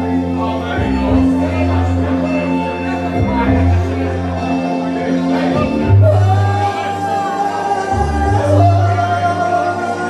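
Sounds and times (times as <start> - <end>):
karaoke backing track over pa: 0.0 - 10.0.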